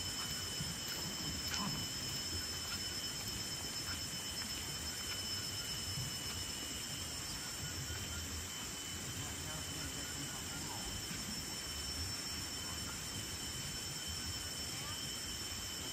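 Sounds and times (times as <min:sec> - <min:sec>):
insects droning: 0:00.0 - 0:15.9.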